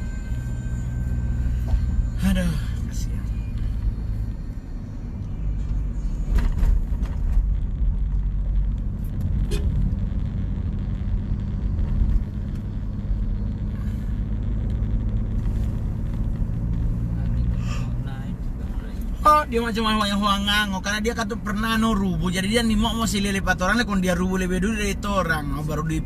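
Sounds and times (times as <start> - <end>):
moving car rumble: 0.0 - 26.0.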